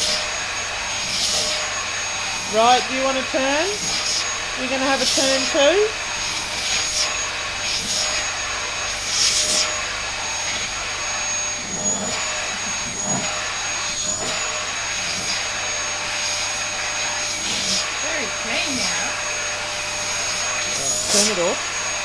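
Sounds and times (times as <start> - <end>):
vacuum cleaner whining: 0.0 - 22.0.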